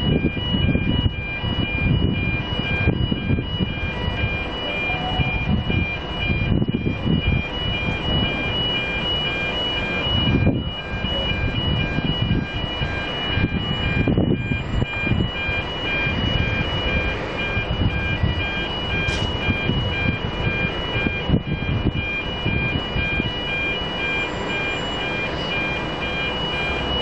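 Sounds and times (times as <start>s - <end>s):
heavy low rumble: 0.0s - 8.8s, 10.0s - 23.4s
level crossing warning bells: 0.0s - 27.0s.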